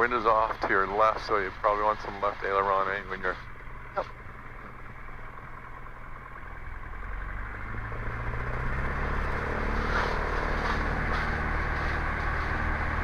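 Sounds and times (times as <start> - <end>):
small plane engine: 0.0 - 13.0.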